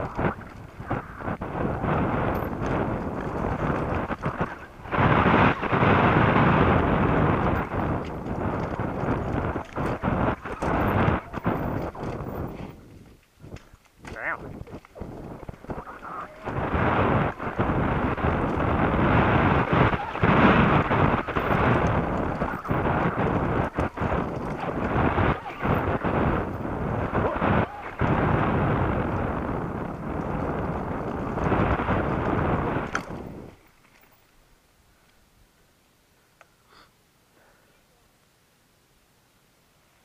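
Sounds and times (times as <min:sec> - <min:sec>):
wind buffeting microphone: 0:00.0 - 0:33.7
mountain bike rattling over rocks: 0:00.0 - 0:34.5.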